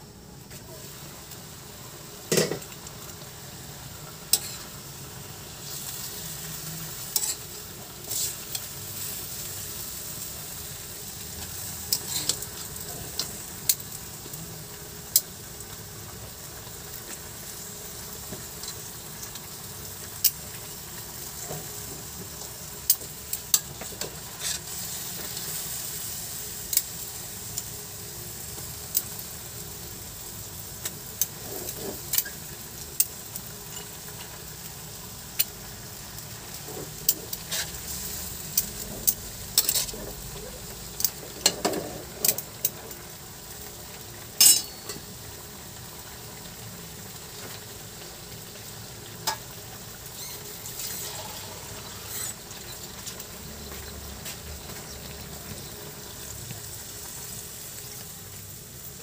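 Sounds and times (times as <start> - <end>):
meat and potatoes sizzling in a wok: 0.0 - 59.0.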